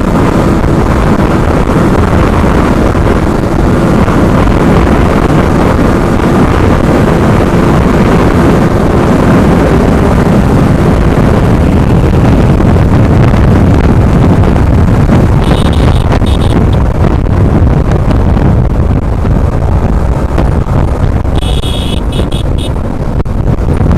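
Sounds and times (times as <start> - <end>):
motorcycle engine running: 0.0 - 23.9
wind buffeting microphone: 0.0 - 23.9.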